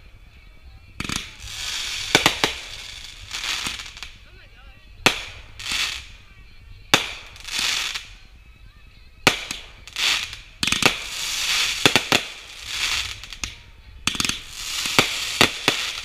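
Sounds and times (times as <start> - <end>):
fireworks bangs: 0.9 - 4.3, 4.9 - 8.4, 9.2 - 16.0
fireworks hiss: 1.0 - 8.5, 9.2 - 16.0.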